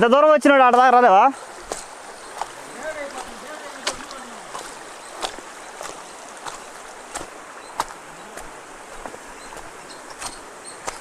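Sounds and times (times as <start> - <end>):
stream flowing over pebbles: 0.0 - 11.0.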